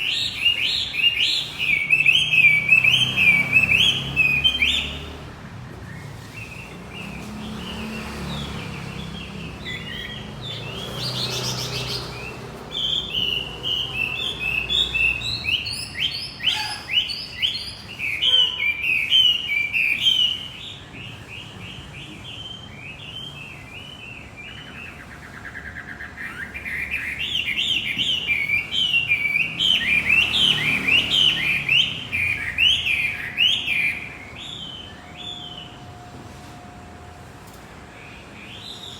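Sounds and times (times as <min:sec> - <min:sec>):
bird singing high chirps: 0:00.0 - 0:05.2, 0:05.8 - 0:35.8, 0:38.4 - 0:38.9.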